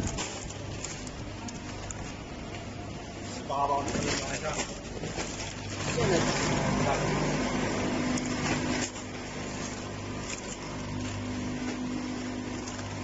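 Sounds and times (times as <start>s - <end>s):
machinery humming and whirring: 0.0s - 13.0s.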